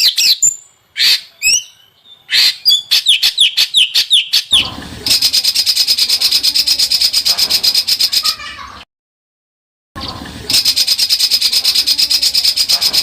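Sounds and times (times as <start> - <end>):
songbird chirping and trilling: 0.0 - 8.5, 10.0 - 13.0.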